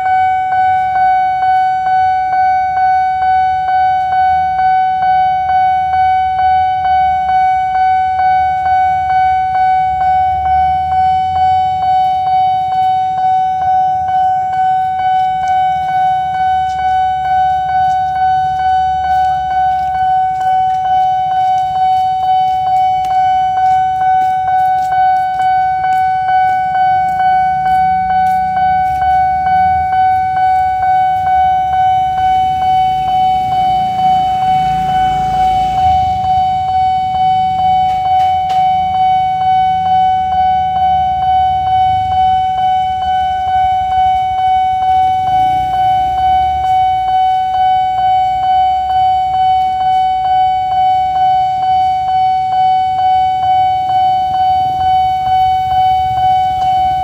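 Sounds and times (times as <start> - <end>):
level crossing warning bell: 0.0 - 57.0
low traffic rumble: 0.0 - 57.0.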